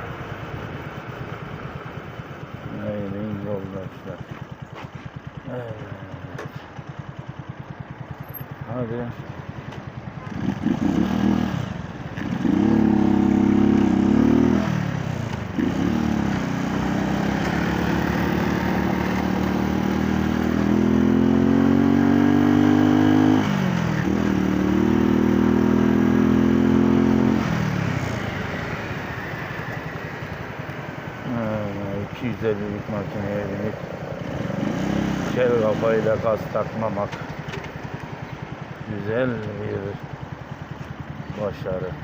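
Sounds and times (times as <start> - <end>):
motorcycle engine accelerating: 2.6 - 42.0.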